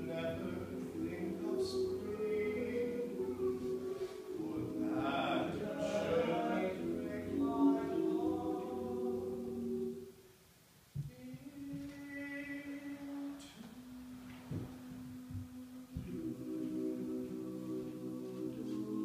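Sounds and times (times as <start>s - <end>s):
men singing in close harmony: 0.0s - 10.0s, 11.1s - 13.6s, 16.0s - 19.0s.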